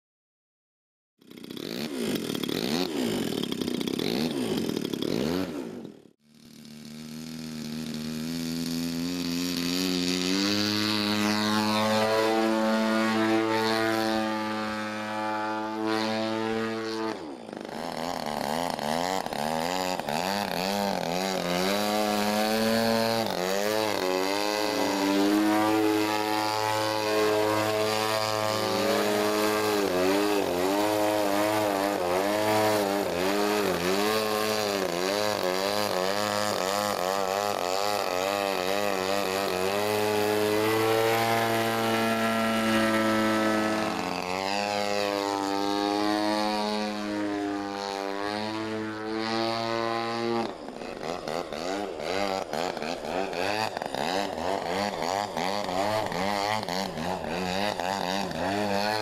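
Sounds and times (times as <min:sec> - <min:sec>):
model plane engine revving: 0:01.2 - 0:59.0.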